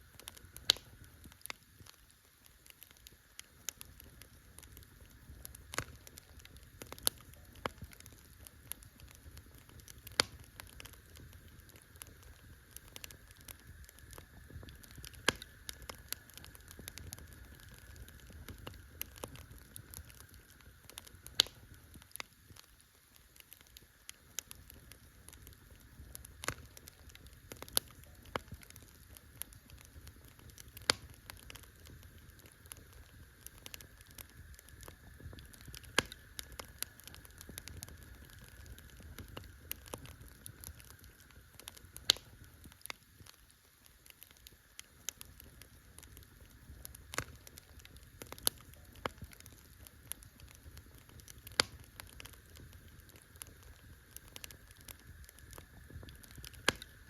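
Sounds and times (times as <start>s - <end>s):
campfire pops and snaps: 0.0s - 57.0s
fire rustling: 0.0s - 57.0s.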